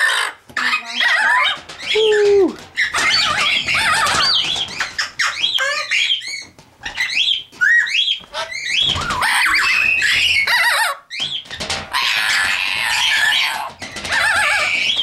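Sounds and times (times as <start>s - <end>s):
parrot squawking: 0.0s - 11.2s, 11.9s - 15.0s.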